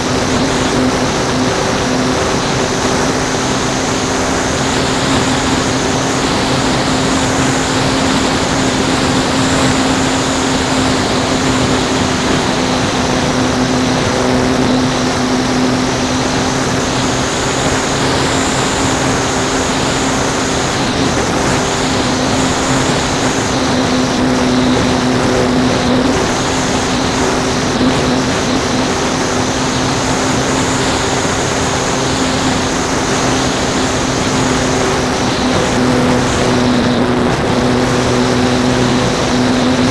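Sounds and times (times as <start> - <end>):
model airplane motor droning: 0.0 - 39.9.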